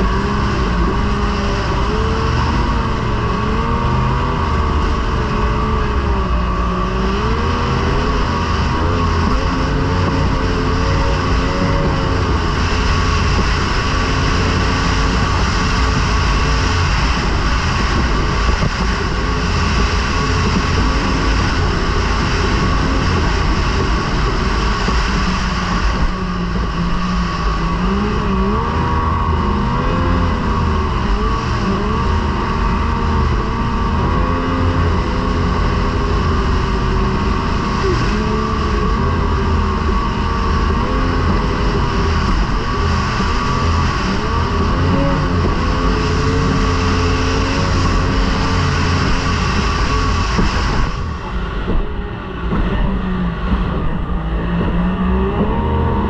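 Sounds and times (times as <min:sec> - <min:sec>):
outboard motor running hard: 0:00.0 - 0:56.0.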